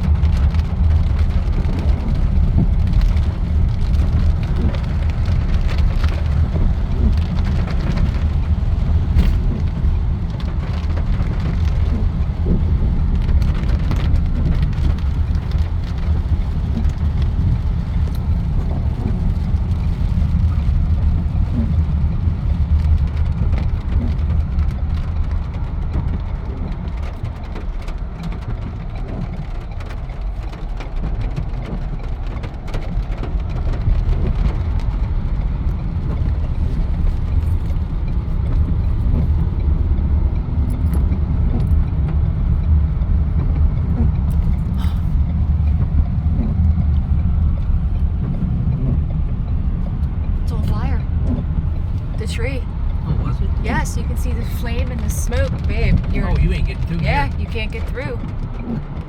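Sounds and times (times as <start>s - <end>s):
car engine and tyre rumble: 0.0s - 59.0s
rain ticking on car body: 0.0s - 59.0s.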